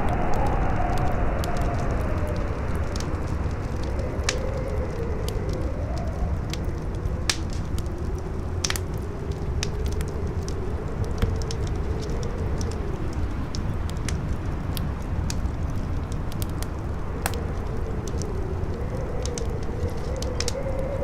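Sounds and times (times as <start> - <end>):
wind howling: 0.0 - 21.0
wood fire crackling: 0.0 - 21.0.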